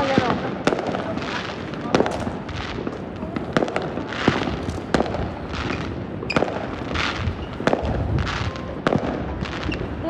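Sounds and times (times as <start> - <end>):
fireworks cracking: 0.0 - 10.0
fireworks hissing: 0.0 - 10.0.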